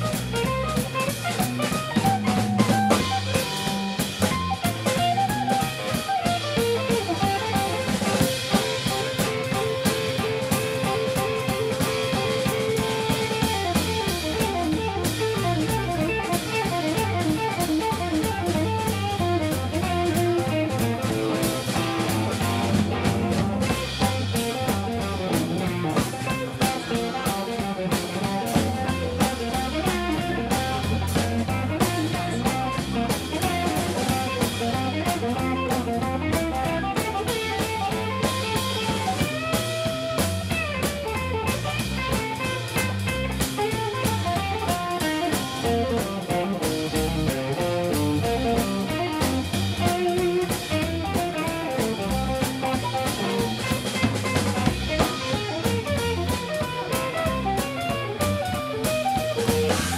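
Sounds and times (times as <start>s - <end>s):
drum kit steady beat: 0.0s - 59.9s
electric bass: 0.0s - 59.9s
electric guitar lead runs: 0.0s - 59.9s.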